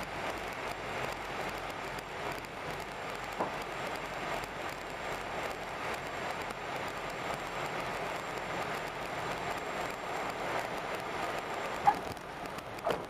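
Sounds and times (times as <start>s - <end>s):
aircraft engines and airflow: 0.0s - 13.0s.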